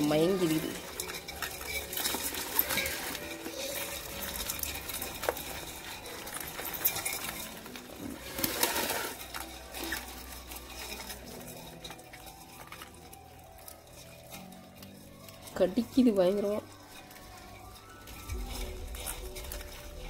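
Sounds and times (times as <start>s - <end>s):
crabs scratching on metal pot: 0.0s - 20.0s.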